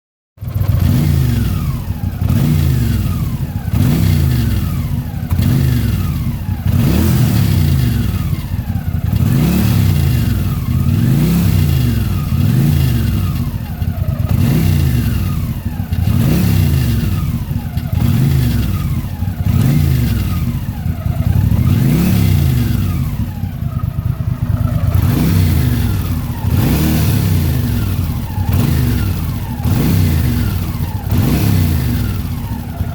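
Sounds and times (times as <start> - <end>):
motorcycle engine revving: 0.4 - 32.9.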